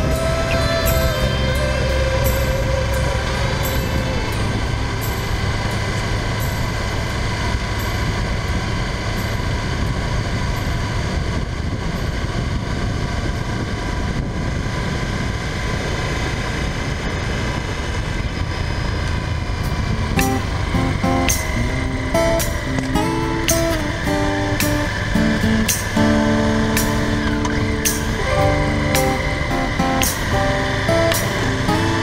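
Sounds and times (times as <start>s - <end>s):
motorcycle engine running: 0.0s - 32.0s
road and wind noise: 0.0s - 32.0s.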